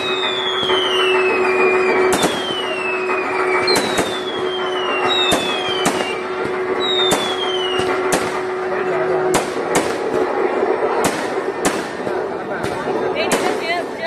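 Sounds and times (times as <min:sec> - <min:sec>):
firework shells bursting: 0:00.0 - 0:14.0
whistling fireworks: 0:00.0 - 0:14.0.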